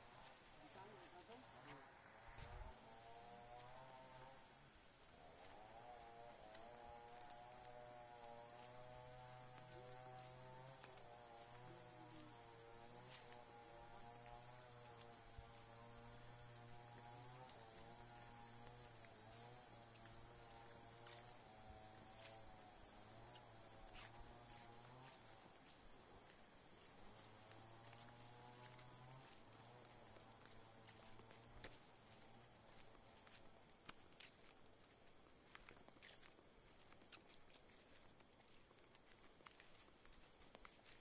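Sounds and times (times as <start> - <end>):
high-pitched insect drone: 0.0 - 41.0
faint ticks: 5.1 - 41.0.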